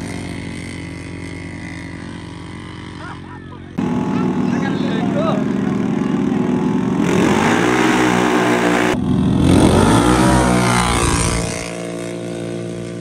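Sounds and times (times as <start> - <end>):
atv engines revving: 0.0 - 13.0.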